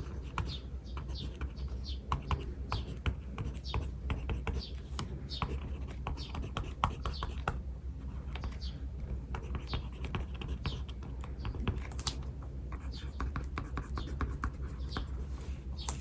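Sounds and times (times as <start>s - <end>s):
pen scratching on paper: 0.0s - 12.0s, 12.7s - 16.0s.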